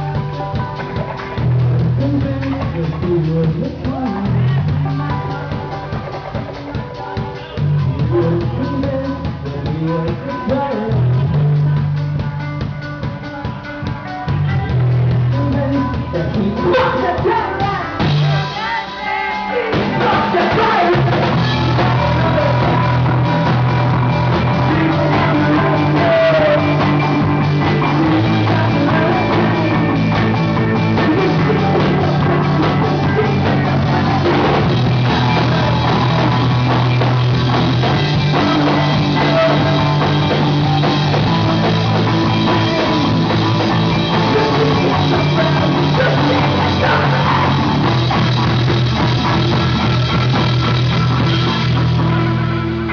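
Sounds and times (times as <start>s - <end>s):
person singing: 0.0s - 50.4s
rock band playing: 0.0s - 52.9s.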